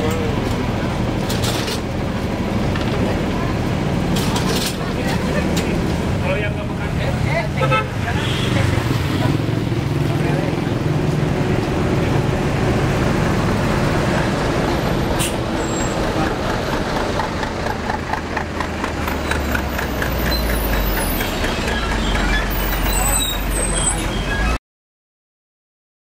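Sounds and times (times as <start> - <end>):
coach diesel engine passing: 0.0 - 24.5
road traffic: 0.0 - 24.6.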